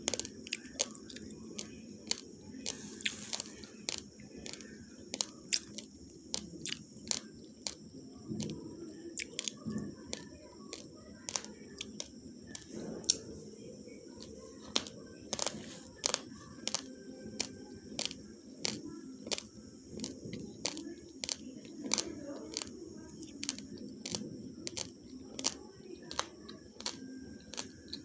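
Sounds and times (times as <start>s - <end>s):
chewing raw rice crunches: 0.0s - 13.3s, 14.2s - 28.0s.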